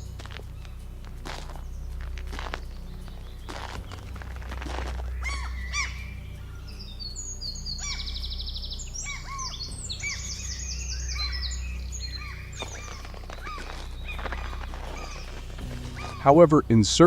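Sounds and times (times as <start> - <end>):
birds chirping and singing: 0.0 - 17.0
steady low hum: 0.0 - 17.0.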